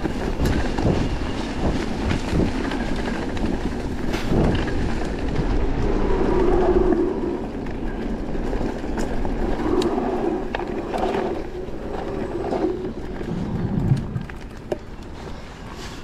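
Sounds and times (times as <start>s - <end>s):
bike chain and frame rattles: 0.0s - 6.3s, 7.4s - 15.7s
tyre and wind noise: 0.0s - 16.0s.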